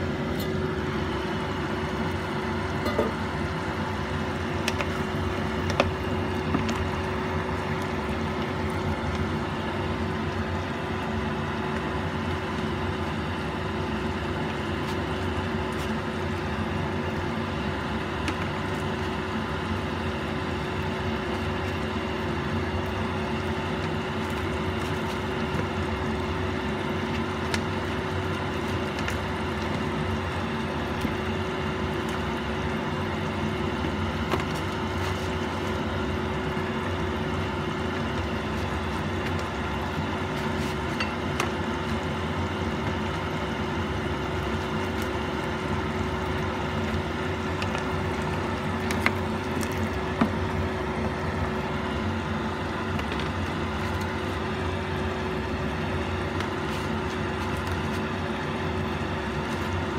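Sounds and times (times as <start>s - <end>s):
pot of stew simmering: 0.0s - 59.9s
steady hum: 0.0s - 59.9s.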